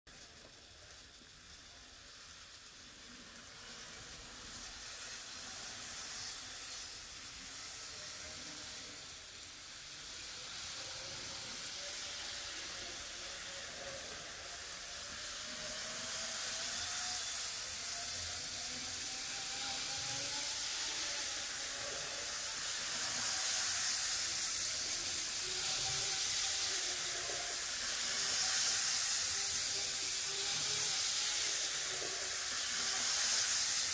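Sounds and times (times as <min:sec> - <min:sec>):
model train rolling on track: 0:00.1 - 0:33.9
faint motor whine: 0:00.2 - 0:33.9.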